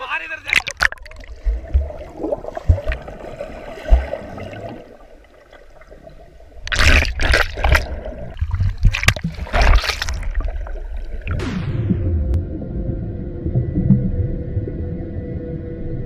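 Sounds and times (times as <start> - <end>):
muffled underwater bubbling: 0.4 - 14.3.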